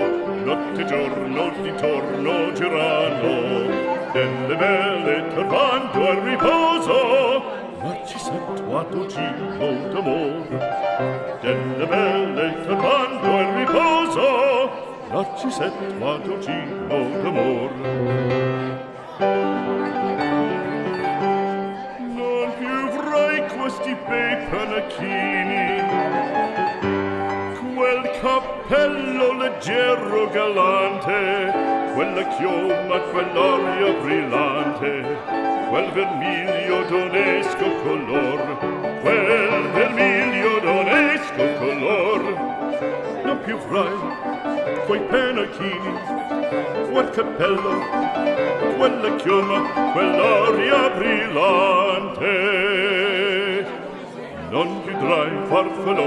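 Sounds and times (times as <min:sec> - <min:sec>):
instrumental accompaniment: 0:00.0 - 0:56.0
operatic singing: 0:00.0 - 0:56.0.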